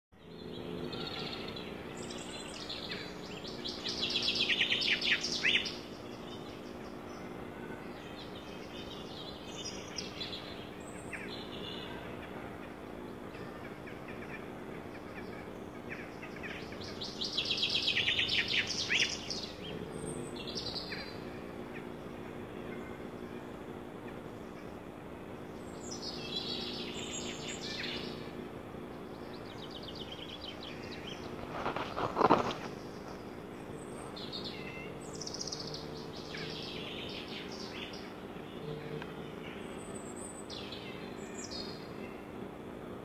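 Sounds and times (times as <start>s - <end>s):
songbird singing: 0.2s - 43.0s
steady low hum: 0.2s - 43.0s.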